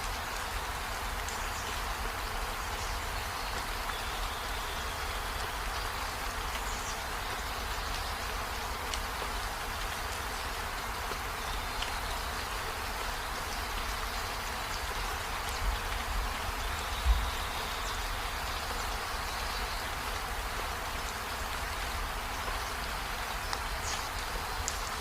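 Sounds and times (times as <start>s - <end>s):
rain drop ticks: 0.0s - 25.0s
steady rain hiss: 0.0s - 25.0s.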